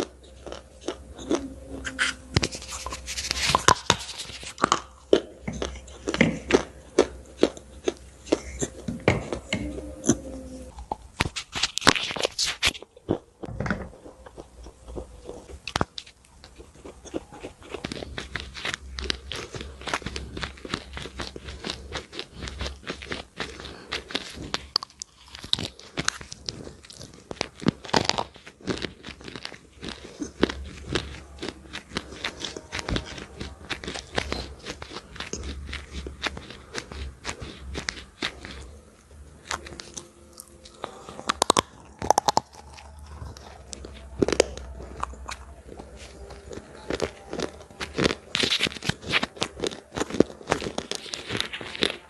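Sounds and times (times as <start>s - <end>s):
crisp snack crunching: 0.0s - 52.0s.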